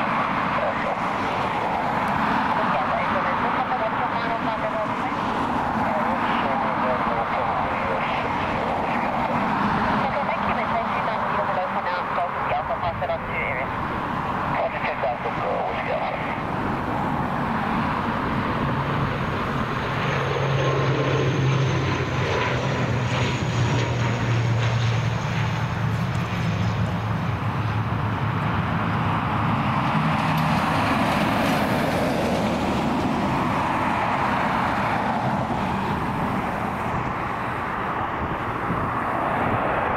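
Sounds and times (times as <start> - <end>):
low propeller hum: 0.0 - 39.9
turboprop engines droning: 0.0 - 39.9.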